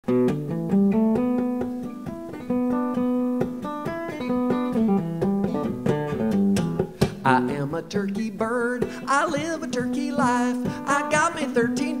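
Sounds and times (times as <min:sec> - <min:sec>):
acoustic guitar picking melody: 0:00.0 - 0:12.0.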